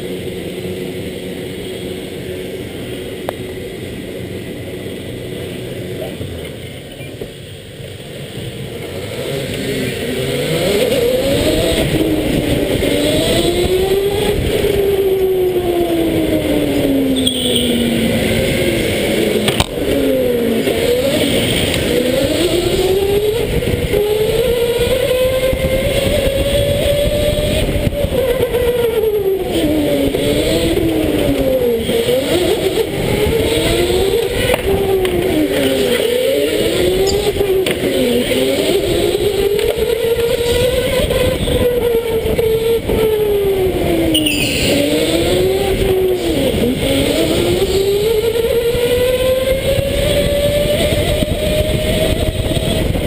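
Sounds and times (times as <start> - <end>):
electric go-kart motor whine: 0.0 - 53.0
other karts whining: 0.0 - 53.0.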